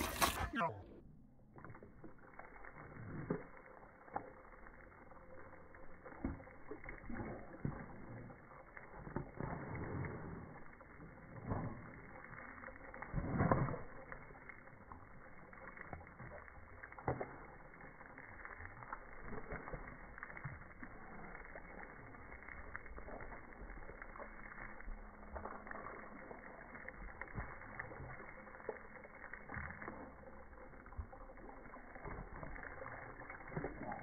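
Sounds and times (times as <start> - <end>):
low drawn-out water splashes: 0.0 - 34.0.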